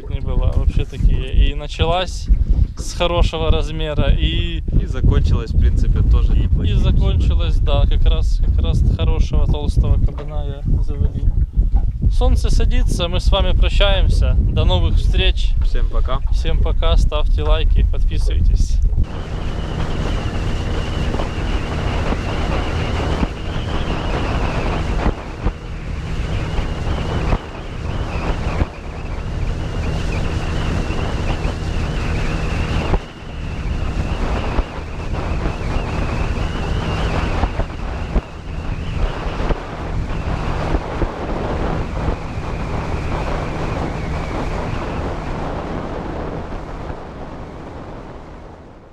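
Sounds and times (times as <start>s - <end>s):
motorboat engine hum: 0.0s - 48.9s
water noise: 0.0s - 48.9s
wind on microphone: 0.0s - 48.9s.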